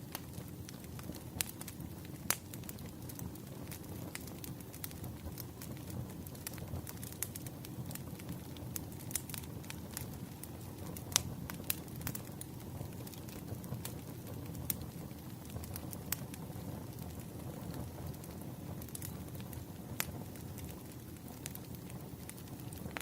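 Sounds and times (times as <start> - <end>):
logs crackling in fire: 0.0 - 23.0.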